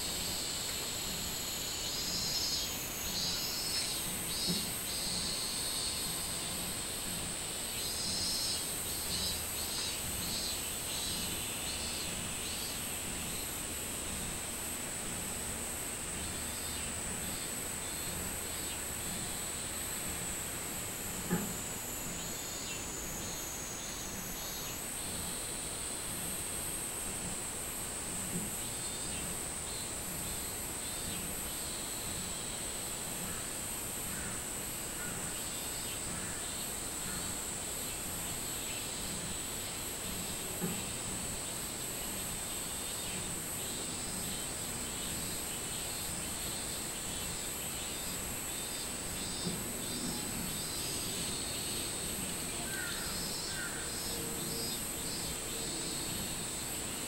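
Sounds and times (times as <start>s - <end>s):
cicadas singing: 0.0s - 57.0s.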